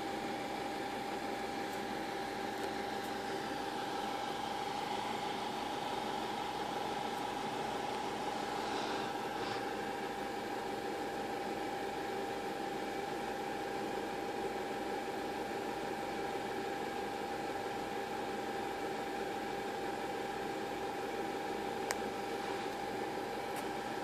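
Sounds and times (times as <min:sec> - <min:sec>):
machine hum with whine: 0:00.0 - 0:24.0.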